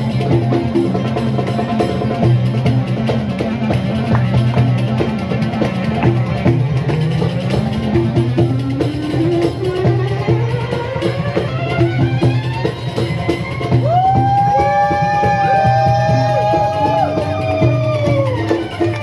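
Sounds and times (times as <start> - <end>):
live band music: 0.0 - 19.0
steady drum rhythm: 0.0 - 19.0.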